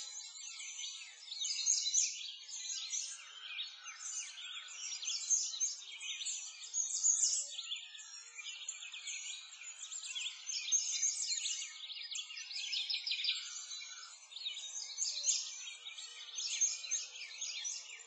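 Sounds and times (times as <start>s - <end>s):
birds chirping and singing: 0.0s - 18.0s.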